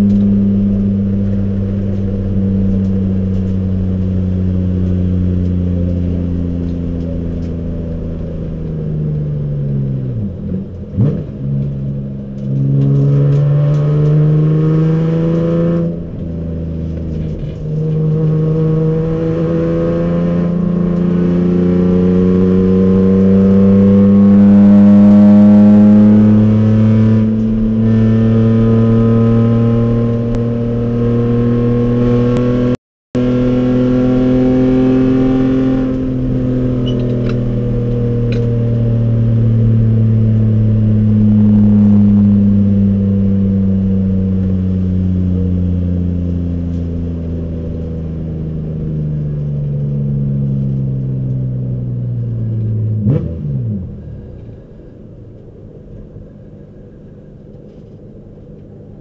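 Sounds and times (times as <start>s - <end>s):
race car engine revving: 0.0s - 54.8s.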